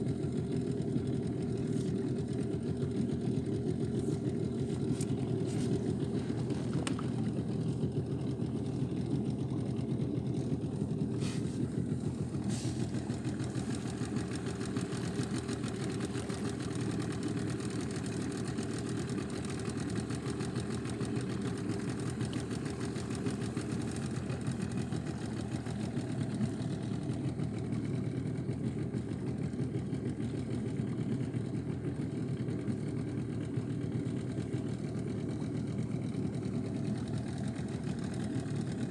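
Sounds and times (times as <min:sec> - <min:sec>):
boat motor droning: 0:00.0 - 0:38.9.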